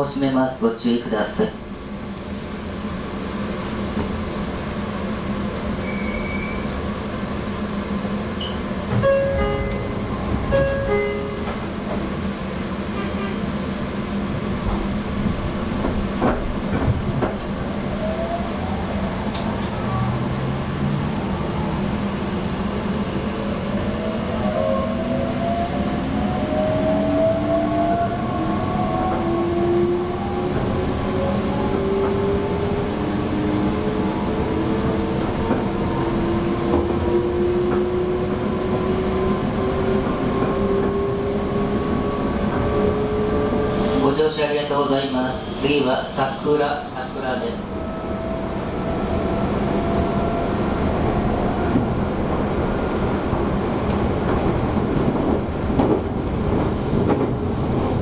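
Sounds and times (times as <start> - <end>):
wheels rumbling on rail: 0.0 - 44.8, 45.4 - 58.0
train onboard equipment hum: 0.0 - 58.0.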